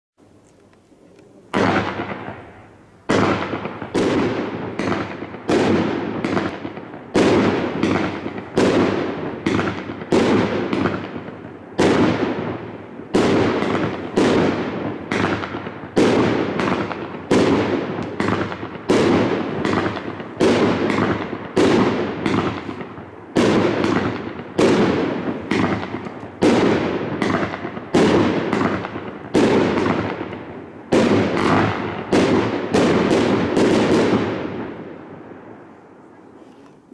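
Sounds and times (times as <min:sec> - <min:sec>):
firework bangs: 0:01.5 - 0:36.0.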